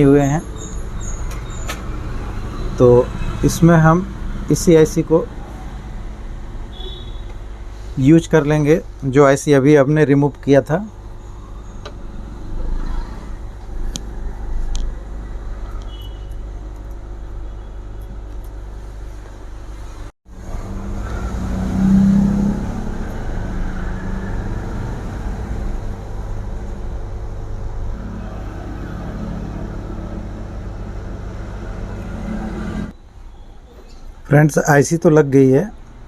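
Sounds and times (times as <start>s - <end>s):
hot-air station blowing hum: 0.0s - 36.0s.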